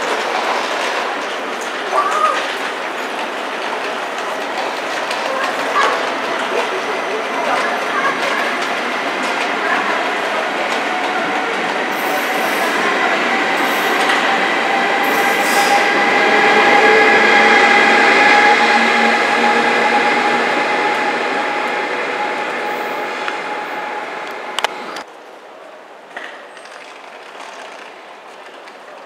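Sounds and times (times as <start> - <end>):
train wheels rushing on rail: 0.0 - 29.0.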